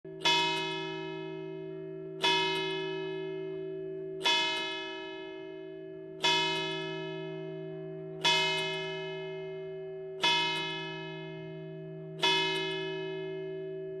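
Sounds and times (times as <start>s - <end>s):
church bell ringing: 0.1s - 14.0s.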